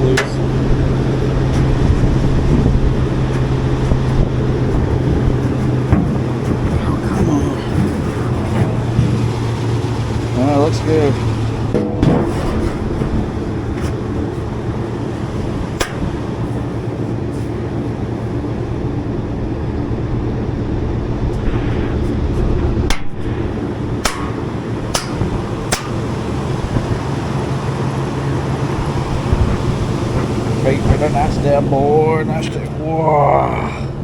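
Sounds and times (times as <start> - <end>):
blower unit humming: 0.0 - 34.0.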